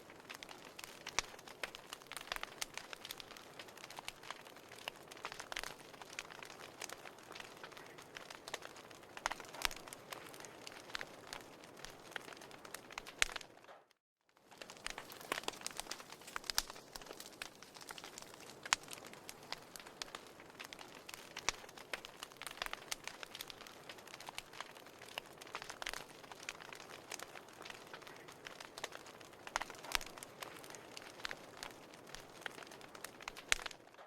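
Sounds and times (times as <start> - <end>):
firewood crackling and popping: 0.0 - 34.0.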